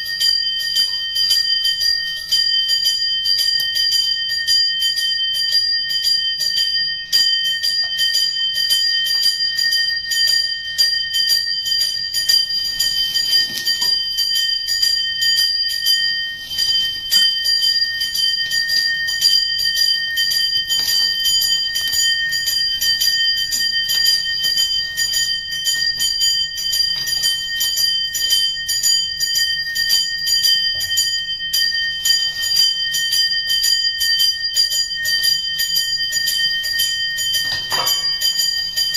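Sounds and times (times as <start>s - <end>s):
bell ringing rapidly: 0.0s - 38.9s.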